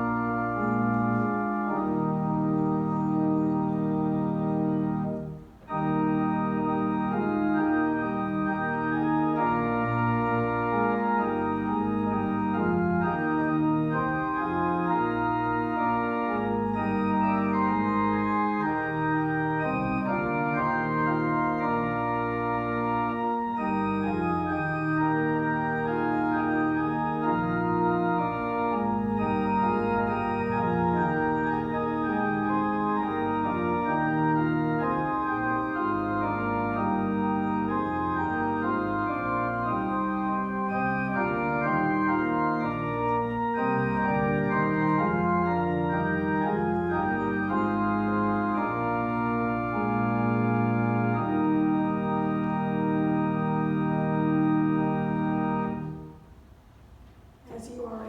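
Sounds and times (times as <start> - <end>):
organ playing held chords: 0.0 - 56.5.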